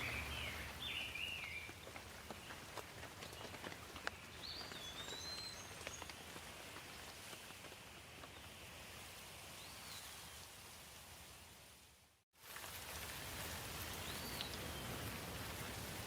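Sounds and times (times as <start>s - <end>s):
light rain: 0.0s - 16.0s.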